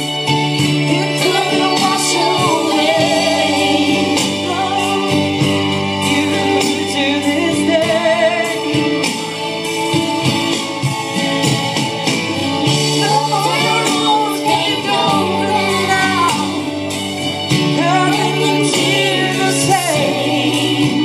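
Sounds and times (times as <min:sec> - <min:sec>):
backing track: 0:00.0 - 0:21.0
person singing country song: 0:00.6 - 0:09.4, 0:12.6 - 0:21.0.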